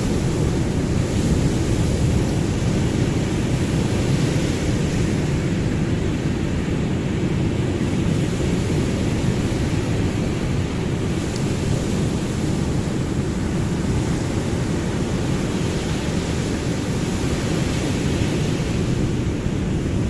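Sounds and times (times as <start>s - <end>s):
ocean surf rumble: 0.0s - 20.0s.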